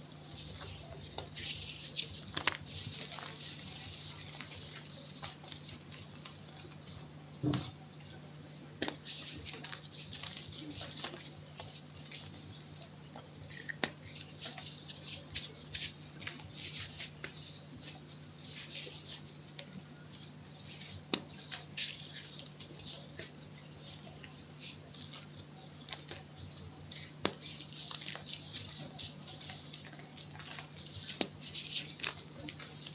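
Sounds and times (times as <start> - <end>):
chalk crunching: 0.0 - 32.9
low steady hum: 0.0 - 32.9.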